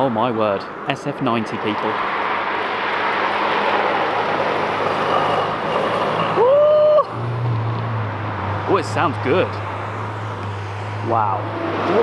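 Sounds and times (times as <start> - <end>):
road noise: 0.0 - 12.0
car engine accelerating: 2.2 - 12.0.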